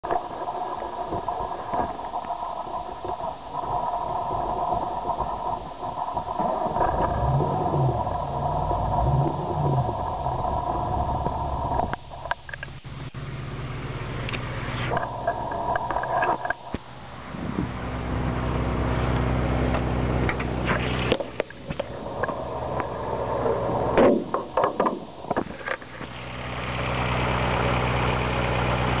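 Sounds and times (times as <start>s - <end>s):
supercharger whine: 0.0s - 29.0s
car engine idling and revving: 0.1s - 29.0s.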